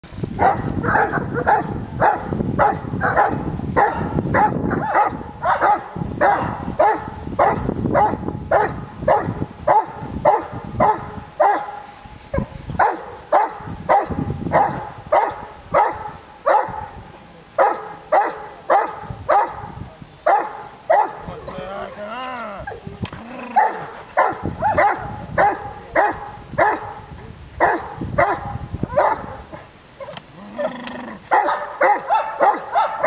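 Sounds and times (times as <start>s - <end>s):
dog barking: 0.4s - 17.0s, 17.6s - 19.7s, 20.3s - 21.7s, 23.5s - 27.0s, 27.6s - 30.2s, 31.3s - 33.0s.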